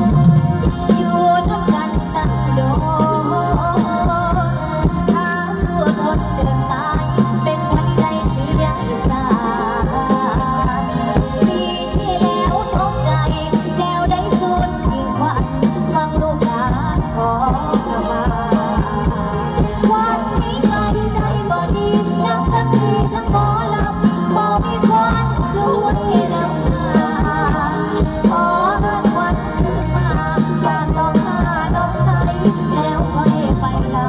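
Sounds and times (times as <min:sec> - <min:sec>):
bass line: 0:00.0 - 0:34.0
live band music with singing: 0:00.0 - 0:34.0.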